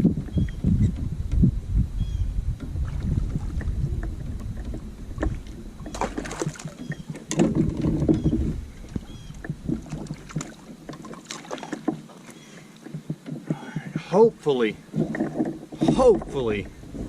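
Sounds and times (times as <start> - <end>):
knocks and clicks on kayak: 0.0 - 1.6, 2.4 - 17.0
water noise: 0.0 - 17.0.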